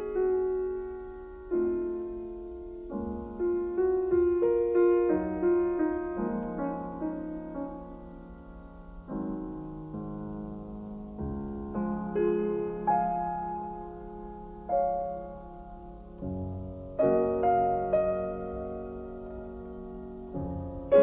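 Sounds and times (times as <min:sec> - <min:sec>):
piano chords and notes: 0:00.0 - 0:21.0.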